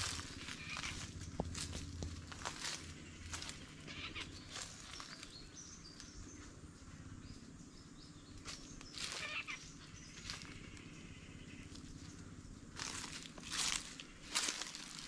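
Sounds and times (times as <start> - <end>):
footsteps crunching dry leaves: 0.0 - 6.6, 8.4 - 15.0
faint bird chirps: 0.0 - 15.0.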